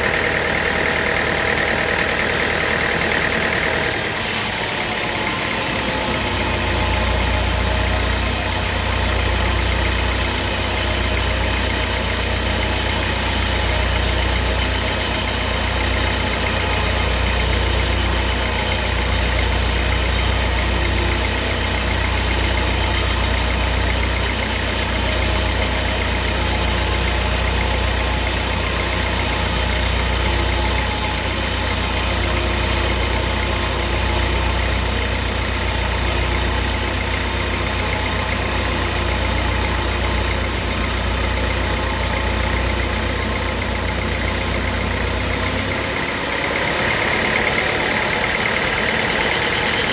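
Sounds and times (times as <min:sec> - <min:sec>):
sawmill machinery drone: 0:00.0 - 0:49.9
broad hiss: 0:03.9 - 0:45.4.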